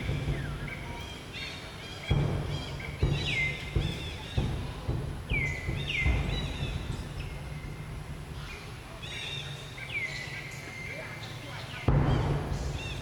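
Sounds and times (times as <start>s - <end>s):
low bumps: 0.0s - 9.7s, 11.8s - 13.0s.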